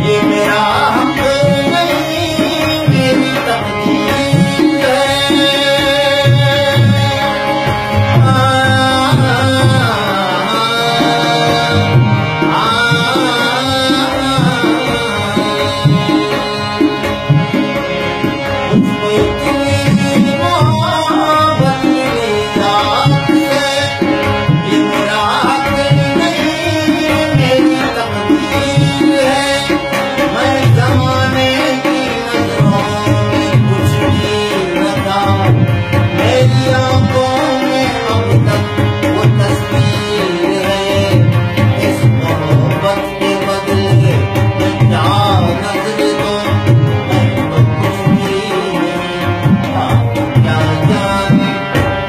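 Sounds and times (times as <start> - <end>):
harmonium melody: 0.0 - 52.0
man singing: 0.0 - 52.0.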